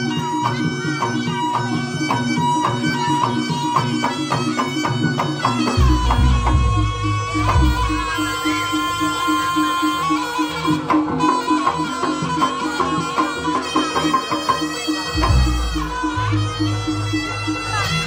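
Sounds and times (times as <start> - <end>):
nasal reed shawm melody: 0.0 - 18.0.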